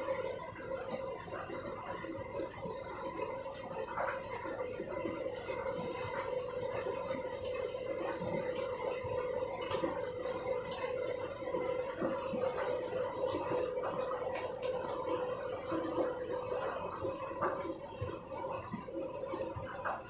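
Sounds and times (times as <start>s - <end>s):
washing machine motor hum: 0.0s - 20.0s
water gurgling and sloshing: 0.0s - 20.0s.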